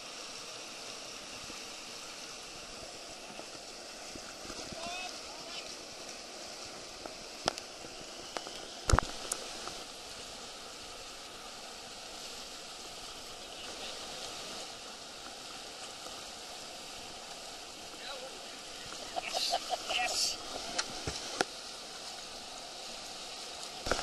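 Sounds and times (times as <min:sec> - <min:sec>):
whitewater rushing: 0:00.0 - 0:24.0.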